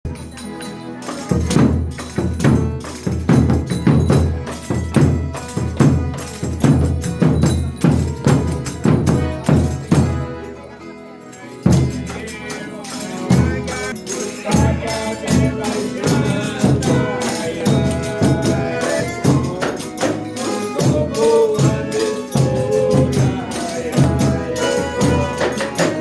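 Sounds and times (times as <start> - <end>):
percussion beat: 0.0 - 10.7, 11.3 - 26.0
folk troupe playing: 0.0 - 26.0.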